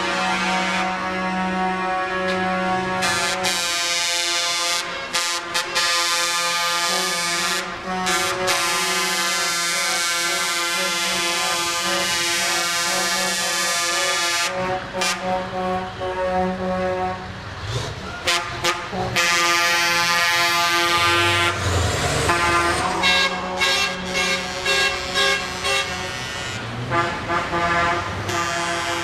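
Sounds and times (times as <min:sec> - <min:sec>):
truck air horns sounding: 0:00.0 - 0:29.0.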